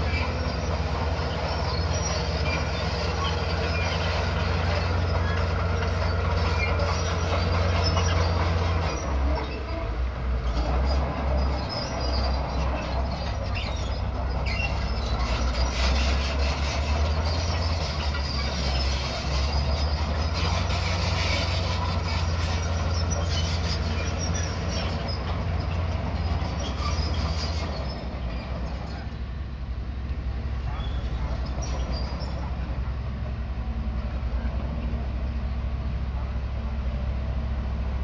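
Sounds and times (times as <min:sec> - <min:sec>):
steel tracks clanking and squealing: 0:00.0 - 0:29.4, 0:30.1 - 0:36.5
bulldozer diesel engine running: 0:00.0 - 0:38.0.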